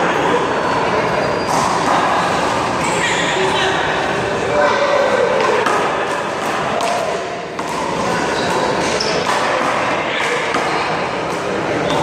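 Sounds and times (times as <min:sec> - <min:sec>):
onlookers chattering: 0:00.0 - 0:12.0.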